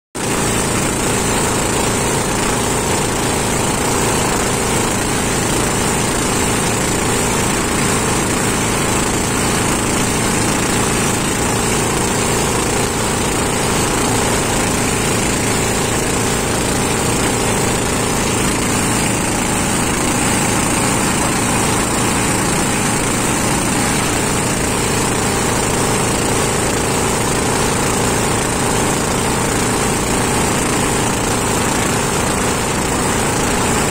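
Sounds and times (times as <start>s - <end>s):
motorboat engine running: 0.2s - 33.9s.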